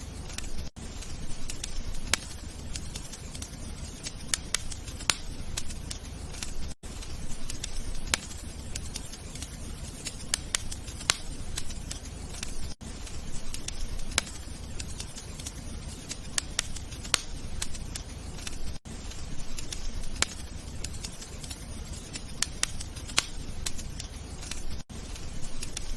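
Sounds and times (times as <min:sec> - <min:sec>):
low steady rumble of fire: 0:00.0 - 0:25.9
wood fire popping and snapping: 0:00.0 - 0:25.9.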